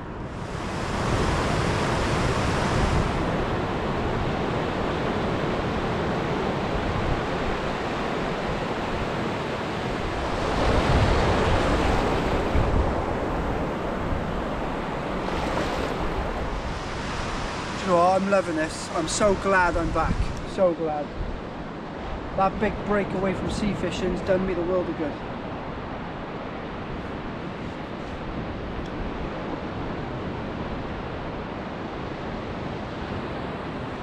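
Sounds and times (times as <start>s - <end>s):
surf washing onto a beach: 0.1s - 34.0s.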